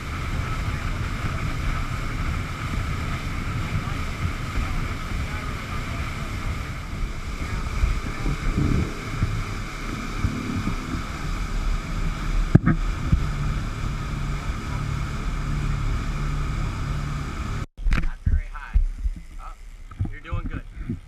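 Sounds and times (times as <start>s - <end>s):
motorboat engine running: 0.0s - 21.0s
water rushing past hull: 0.0s - 21.0s
wind buffeting microphone: 0.0s - 21.0s.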